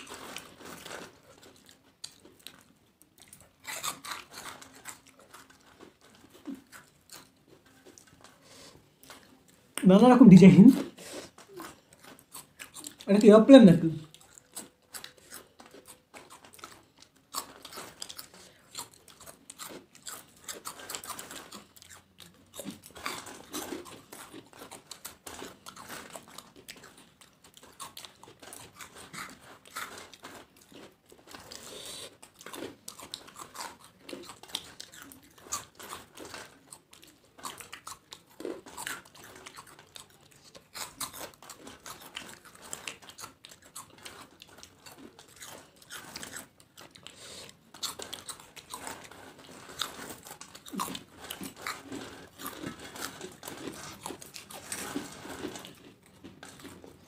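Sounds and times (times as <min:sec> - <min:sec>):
people crunching crisp food: 0:00.0 - 0:57.0.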